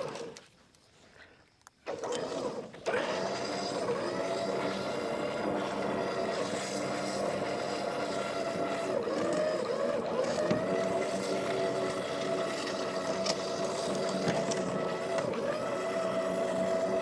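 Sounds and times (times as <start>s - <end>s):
engine running at high speed: 2.8s - 17.0s.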